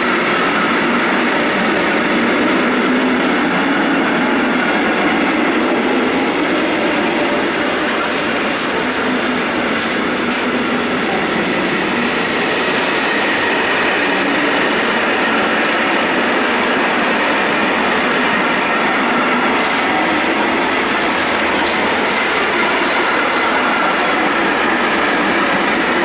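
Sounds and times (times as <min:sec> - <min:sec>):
train passing on rails: 0:00.0 - 0:26.0.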